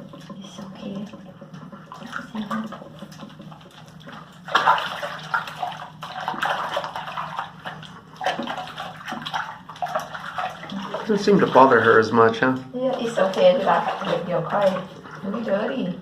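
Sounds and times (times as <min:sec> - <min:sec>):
water splashing and trickling in a sink: 0:00.0 - 0:16.0.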